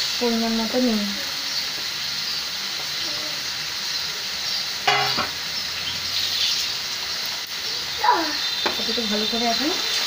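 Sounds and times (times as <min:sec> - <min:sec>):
greens sizzling in hot oil: 0:00.0 - 0:10.0.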